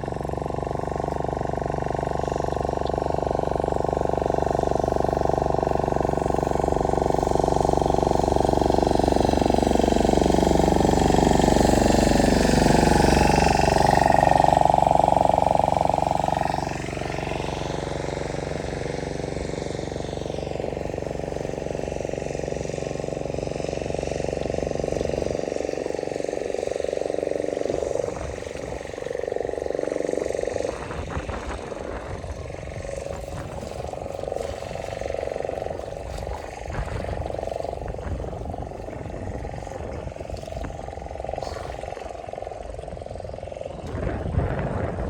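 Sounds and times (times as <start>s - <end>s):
engine running: 0.0s - 45.0s.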